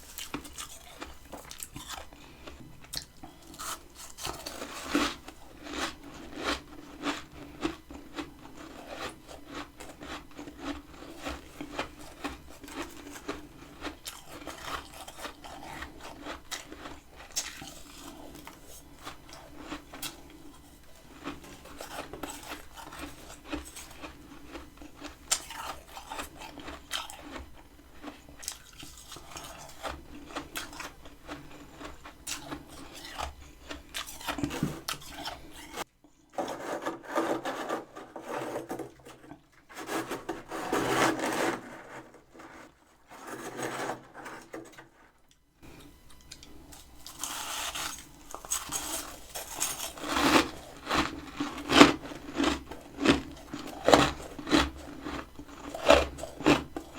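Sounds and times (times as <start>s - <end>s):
freezer frost being scraped: 0.0s - 27.4s, 28.1s - 45.8s, 46.7s - 56.9s.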